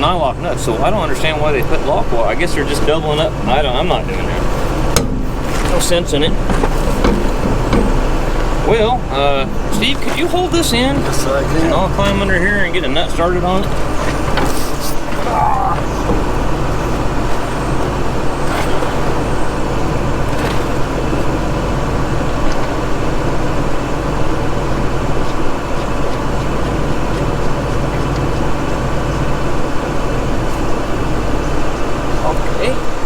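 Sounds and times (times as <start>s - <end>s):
machinery rumble and hum: 0.0s - 33.0s.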